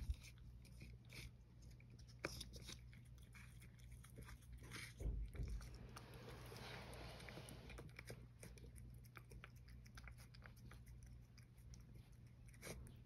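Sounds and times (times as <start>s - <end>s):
cat chewing food: 0.0s - 13.0s.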